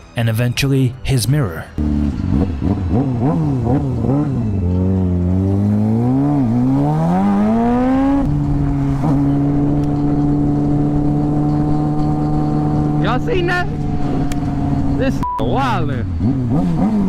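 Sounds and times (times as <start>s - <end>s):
motorcycle engine revving: 1.8s - 17.0s.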